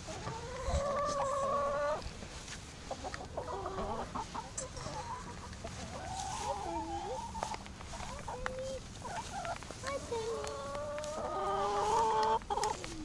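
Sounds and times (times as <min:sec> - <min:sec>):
hens calling and clucking: 0:00.0 - 0:13.0.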